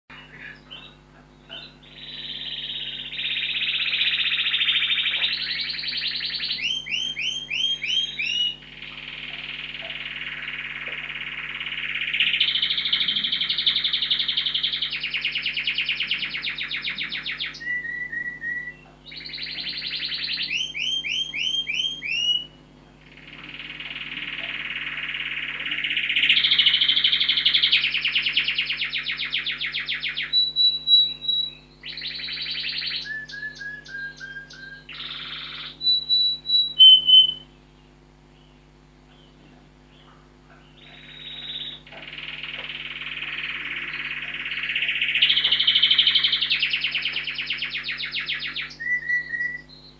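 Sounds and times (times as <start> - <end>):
canary singing trills: 0.1 - 49.9.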